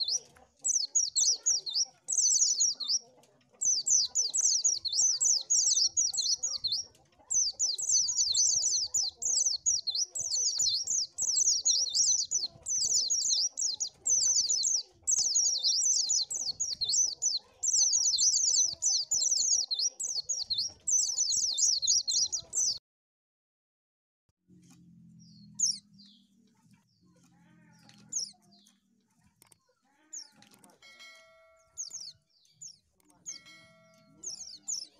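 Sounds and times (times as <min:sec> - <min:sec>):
bird twittering song: 0:00.0 - 0:22.8, 0:25.0 - 0:30.8, 0:31.4 - 0:34.9.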